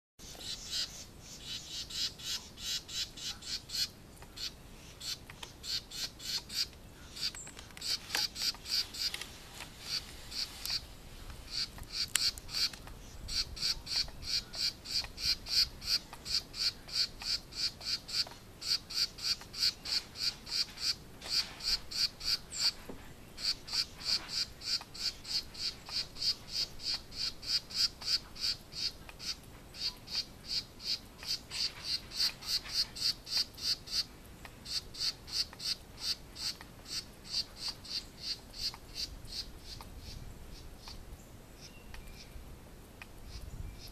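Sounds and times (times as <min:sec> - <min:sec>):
small bird calling: 0:00.2 - 0:42.4, 0:43.0 - 0:43.9.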